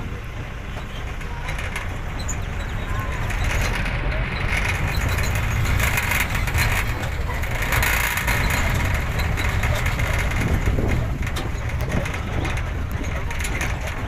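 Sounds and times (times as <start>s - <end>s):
vehicle rumbling on dirt track: 0.0s - 14.0s.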